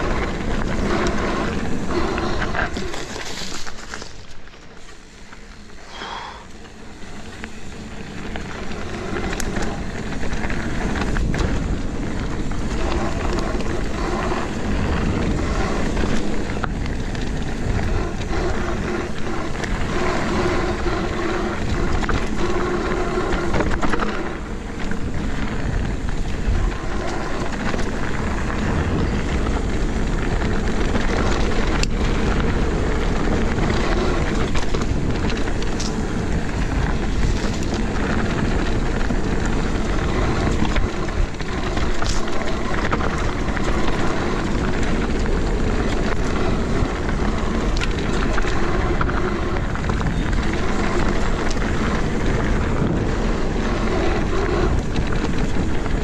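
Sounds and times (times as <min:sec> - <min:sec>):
bike rattling: 0:00.0 - 0:56.0
bike tyres rolling on dirt: 0:00.0 - 0:56.0
wind rushing over microphone: 0:00.0 - 0:56.0.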